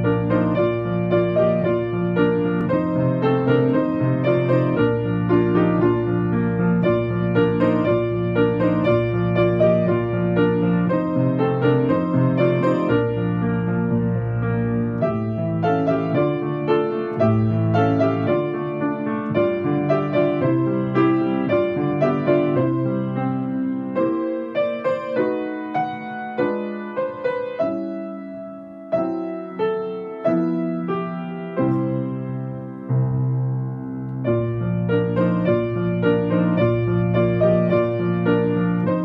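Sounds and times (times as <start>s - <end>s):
grand piano playing: 0.0s - 39.0s.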